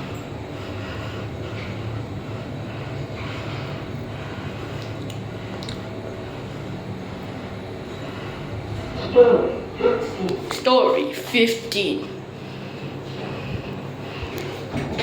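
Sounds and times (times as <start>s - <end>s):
lift car hum and rumble: 0.0s - 15.0s.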